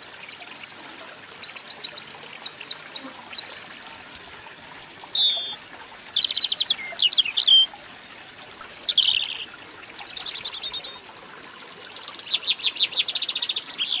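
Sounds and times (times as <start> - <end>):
songbird chirping and trilling: 0.1 - 4.2, 4.9 - 7.8, 8.6 - 11.0, 11.7 - 14.0.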